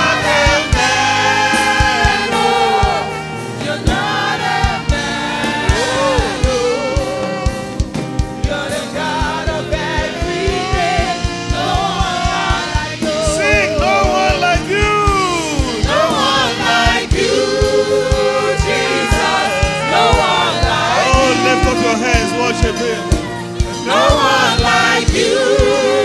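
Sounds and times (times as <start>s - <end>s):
gospel singing with band: 0.0s - 26.0s.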